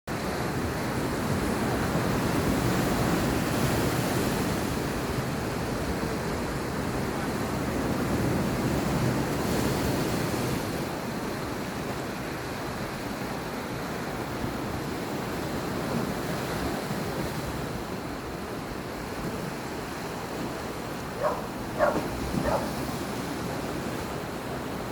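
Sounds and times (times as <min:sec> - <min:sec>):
sea waves washing ashore: 0:00.1 - 0:24.9
wind: 0:00.1 - 0:24.9.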